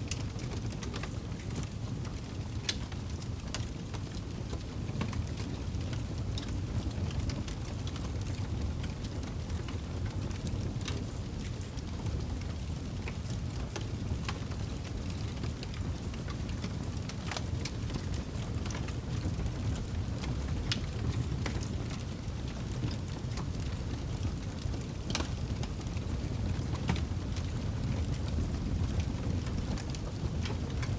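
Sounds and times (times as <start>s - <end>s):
burning wood crackling and popping: 0.1s - 30.9s
campfire flames rushing: 0.1s - 30.9s.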